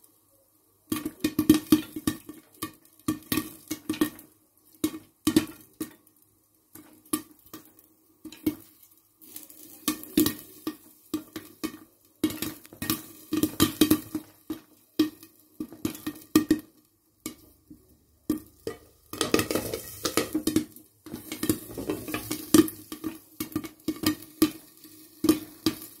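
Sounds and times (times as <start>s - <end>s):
popcorn popping in a covered pan: 0.0s - 26.0s.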